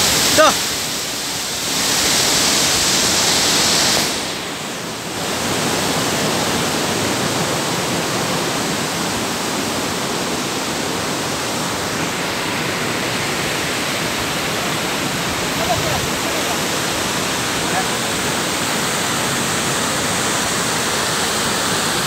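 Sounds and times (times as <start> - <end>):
water rushing over rocks: 0.0 - 22.0.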